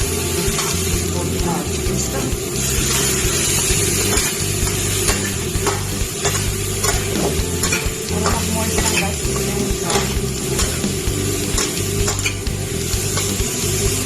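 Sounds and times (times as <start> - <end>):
food sizzling in a pan: 0.1 - 14.0.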